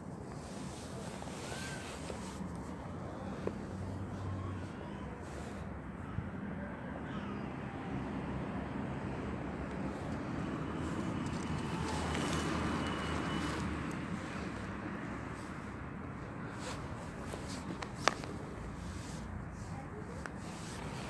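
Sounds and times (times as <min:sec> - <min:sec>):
passing vehicle rumble: 0:00.4 - 0:21.0.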